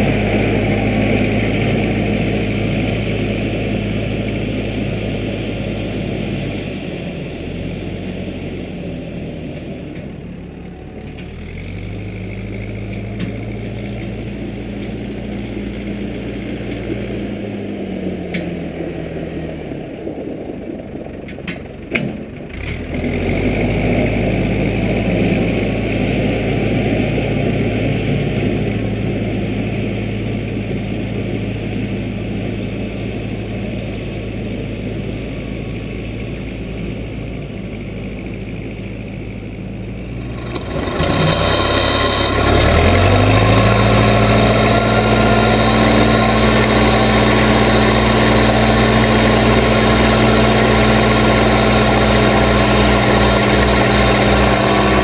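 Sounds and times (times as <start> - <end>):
backhoe engine running and revving: 0.0 - 55.0.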